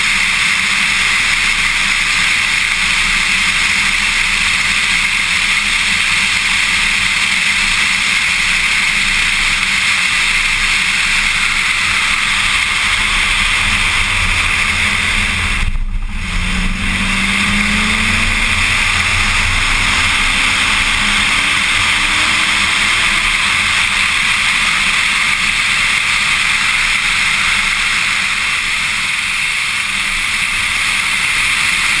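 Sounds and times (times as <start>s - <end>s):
car engine accelerating: 0.0s - 32.0s
heavy wind rush: 4.0s - 32.0s.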